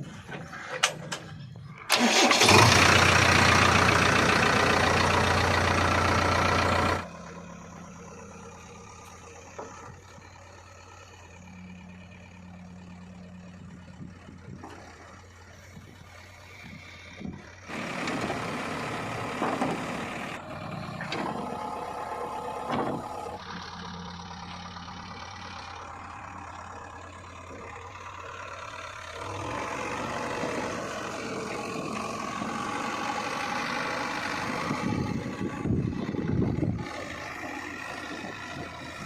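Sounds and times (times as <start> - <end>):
diesel engines running: 0.0 - 39.0.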